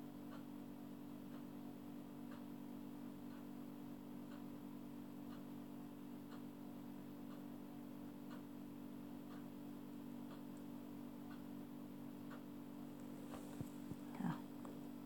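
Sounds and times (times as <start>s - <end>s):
steady low hum: 0.0s - 15.0s
faint regular ticking: 1.2s - 15.0s.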